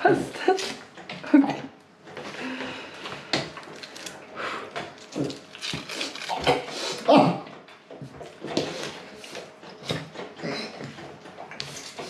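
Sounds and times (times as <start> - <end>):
man chewing food: 0.4 - 12.0.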